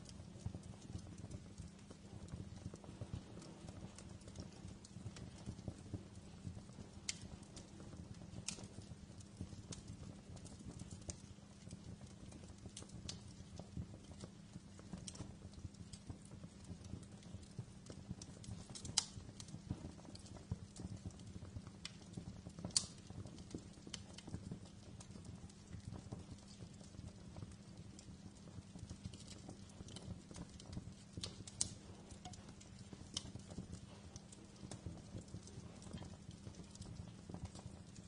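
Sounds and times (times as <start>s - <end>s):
fire low rumble: 0.0s - 38.0s
fire pops and snaps: 0.0s - 38.0s.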